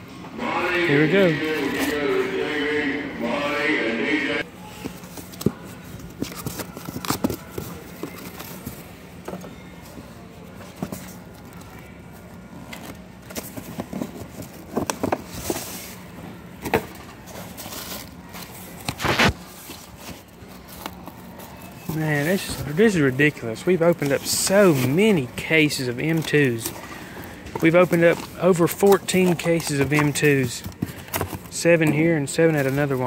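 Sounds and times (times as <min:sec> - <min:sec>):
cardboard boxes rustling and knocking: 0:04.8 - 0:11.7, 0:12.6 - 0:33.0.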